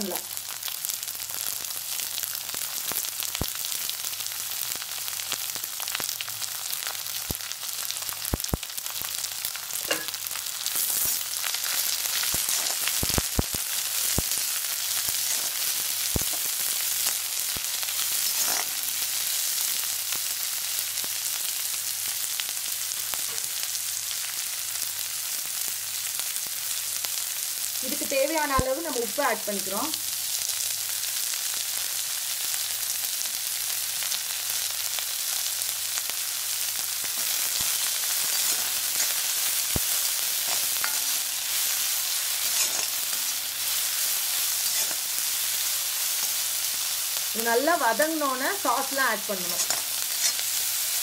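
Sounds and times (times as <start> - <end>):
onions sizzling in hot oil: 0.0 - 51.0.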